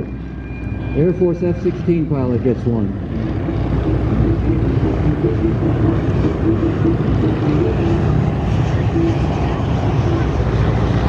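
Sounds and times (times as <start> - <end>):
propeller airplane flying by: 0.0 - 11.0.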